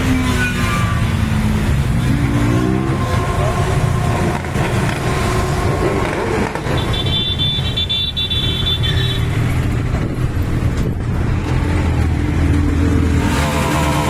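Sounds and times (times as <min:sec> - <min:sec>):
traffic noise: 0:00.0 - 0:14.0
vehicle engines running: 0:00.0 - 0:14.0.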